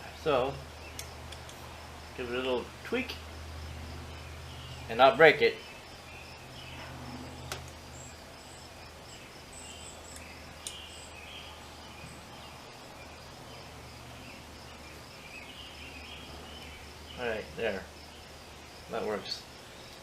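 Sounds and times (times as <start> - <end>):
crickets chirping: 0.0 - 20.0
steady low hum: 0.0 - 20.0.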